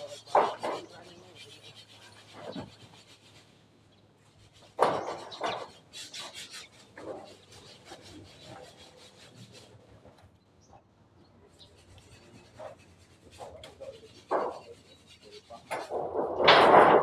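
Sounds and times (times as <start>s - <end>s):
rhythmic scraping on wood: 0.0s - 17.0s.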